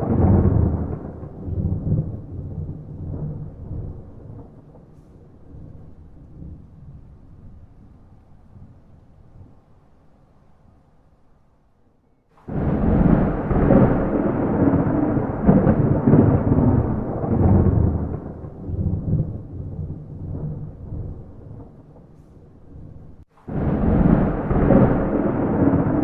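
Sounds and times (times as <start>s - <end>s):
thunder crack and rumble: 0.0s - 9.9s, 12.4s - 26.0s.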